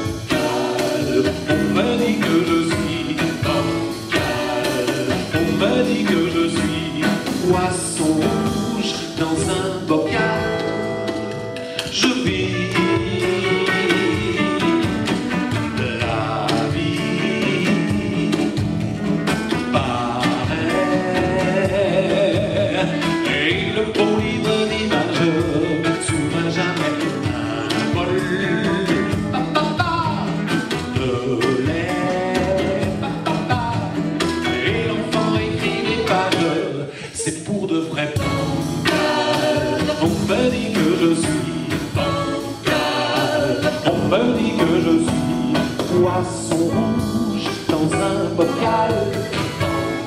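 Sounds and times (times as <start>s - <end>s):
acoustic guitar: 0.0s - 50.0s
drum kit: 0.0s - 50.0s
hollow-body guitar: 0.0s - 50.0s.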